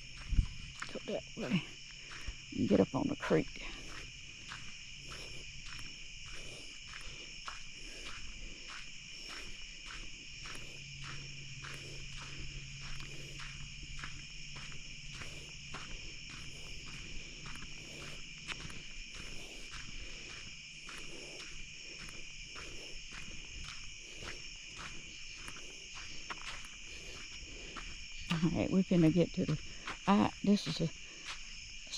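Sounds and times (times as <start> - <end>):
crickets and insects trilling: 0.0 - 31.9
footsteps in undergrowth: 0.0 - 31.9.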